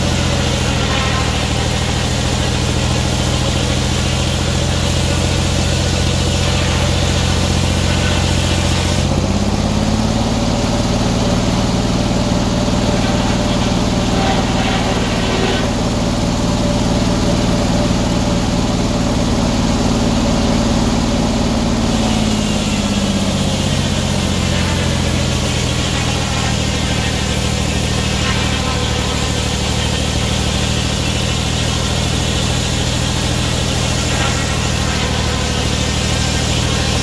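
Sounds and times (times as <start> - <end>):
saw blade hiss: 0.0 - 9.2, 10.5 - 16.7, 21.6 - 37.0
sawmill engine running: 0.0 - 37.0.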